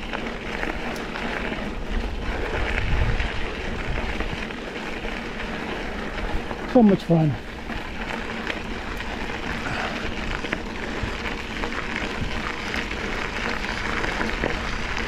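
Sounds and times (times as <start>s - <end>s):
bike clicks and knocks: 0.0s - 6.8s, 7.4s - 15.0s
bike tyres rolling on dirt: 0.0s - 15.0s.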